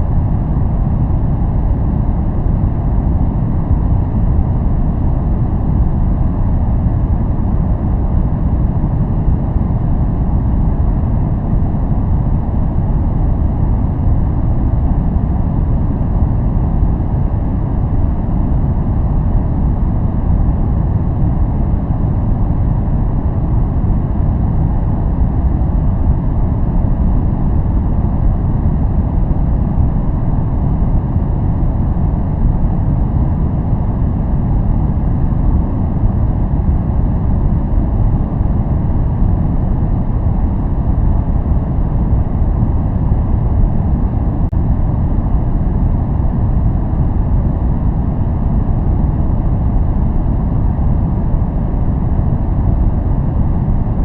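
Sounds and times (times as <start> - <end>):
deep low-weighted white noise: 0.0 - 54.0.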